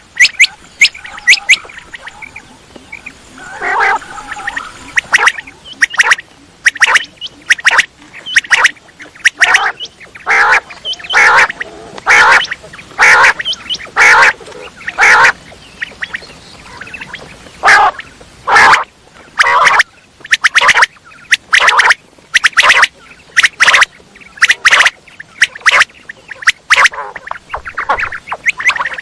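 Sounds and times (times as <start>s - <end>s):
quail calling: 0.0s - 29.0s.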